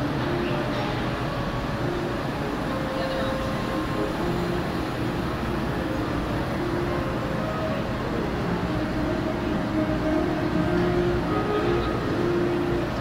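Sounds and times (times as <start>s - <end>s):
distant indistinct voices: 0.0s - 13.0s.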